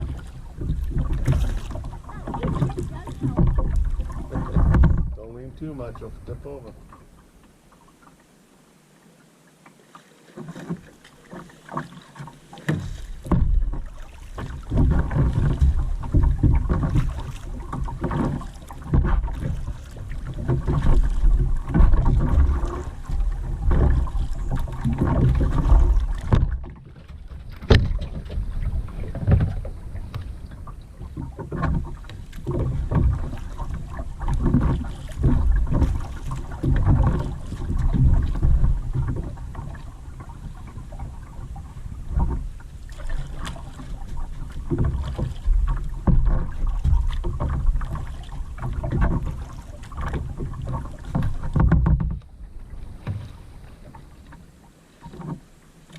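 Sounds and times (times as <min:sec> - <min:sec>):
low rumble on microphone: 0:00.0 - 0:07.2, 0:12.8 - 0:54.3
paddle splashing in water: 0:00.0 - 0:55.9.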